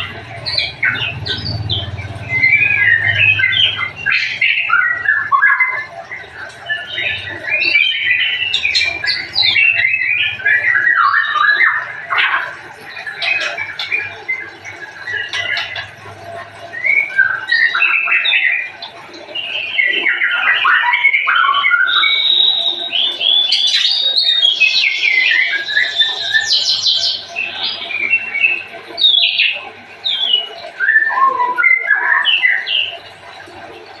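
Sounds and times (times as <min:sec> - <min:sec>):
bird singing whistles and trills: 0:00.0 - 0:16.0, 0:16.7 - 0:33.1.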